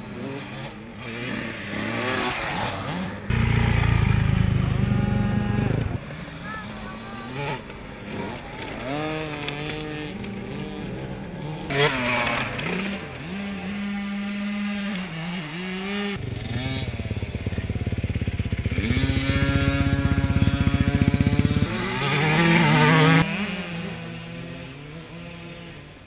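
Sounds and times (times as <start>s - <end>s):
two-stroke motorbike engine revving: 0.0s - 26.0s.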